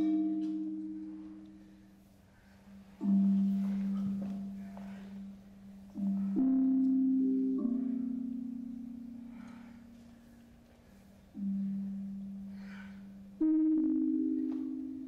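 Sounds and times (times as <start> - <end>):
slow music of low ringing tones: 0.0 - 15.0.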